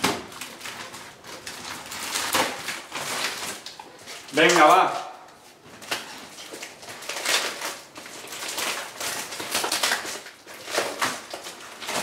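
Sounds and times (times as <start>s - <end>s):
cardboard and tape scraping: 0.0s - 12.0s.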